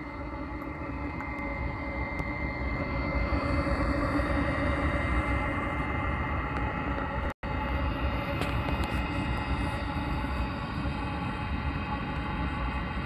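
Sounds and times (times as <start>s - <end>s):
water heater whining: 0.0s - 13.0s.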